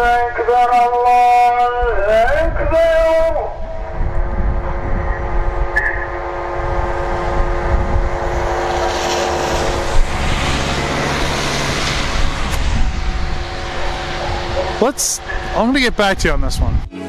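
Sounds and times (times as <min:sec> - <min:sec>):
broad rushing noise: 0:00.0 - 0:16.9
droning hum: 0:00.0 - 0:16.9.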